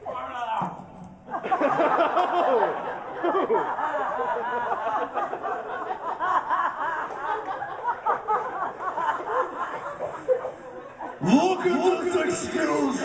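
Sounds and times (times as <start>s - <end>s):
audience laughing: 1.2s - 13.0s.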